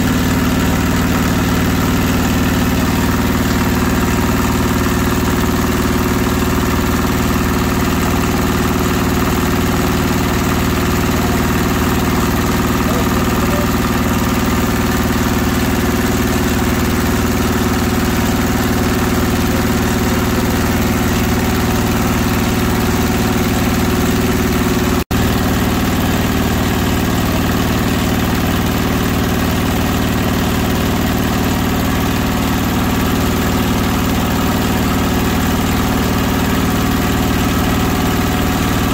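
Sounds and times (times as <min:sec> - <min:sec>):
meat mincer motor humming: 0:00.0 - 0:38.9.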